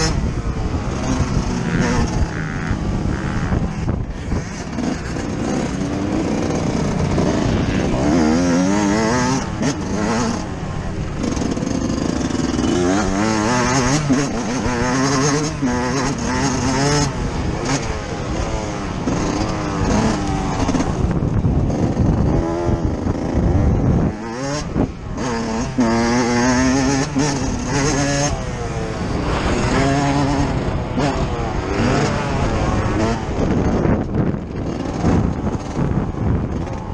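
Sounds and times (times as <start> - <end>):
motocross engine revving: 0.0 - 36.9.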